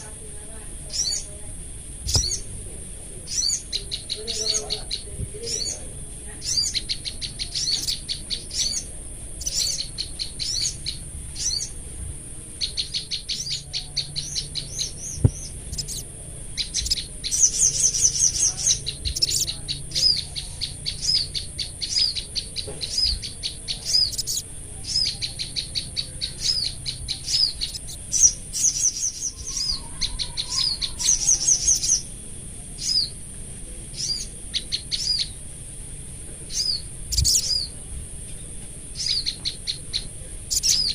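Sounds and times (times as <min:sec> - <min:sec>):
songbirds chirping and trilling: 0:00.0 - 0:40.9
steady high-pitched hiss: 0:00.0 - 0:40.9.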